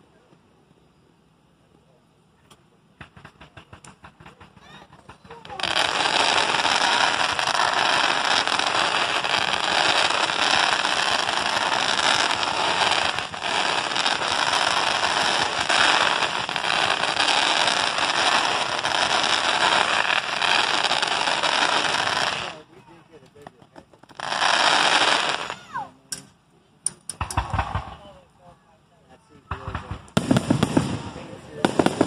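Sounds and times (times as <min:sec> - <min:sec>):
fireworks crackling: 0:02.5 - 0:28.4, 0:29.3 - 0:32.0.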